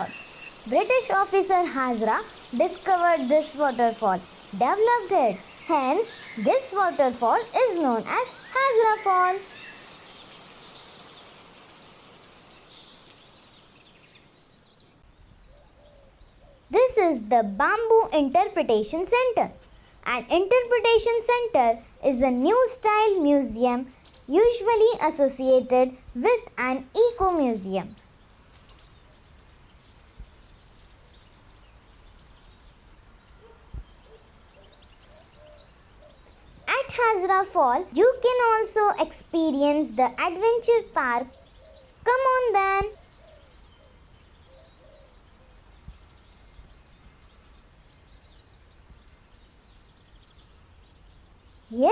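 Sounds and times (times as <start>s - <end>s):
faint bird chirps: 0.0s - 51.9s
steady outdoor hiss: 0.0s - 51.9s.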